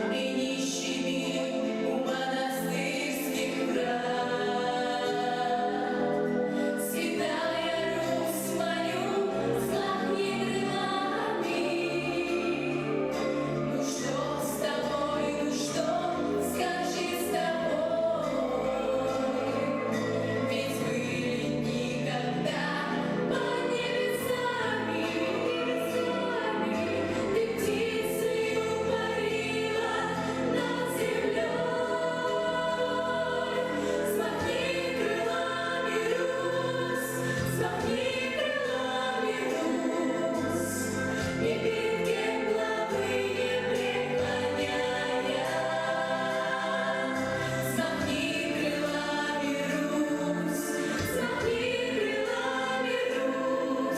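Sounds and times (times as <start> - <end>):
children's choir singing: 0.0 - 53.9
instrumental accompaniment: 0.0 - 53.9.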